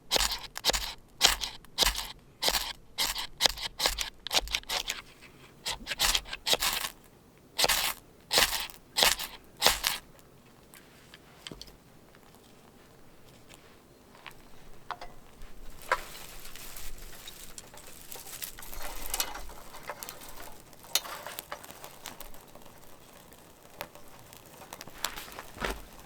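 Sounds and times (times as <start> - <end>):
objects being handled: 0.0 - 26.0.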